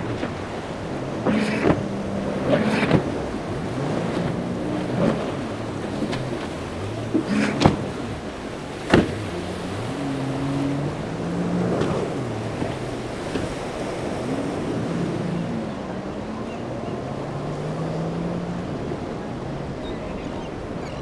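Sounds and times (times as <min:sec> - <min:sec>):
boat engines running: 0:00.0 - 0:21.0
surf washing: 0:00.0 - 0:21.0
wind buffeting microphone: 0:00.0 - 0:21.0.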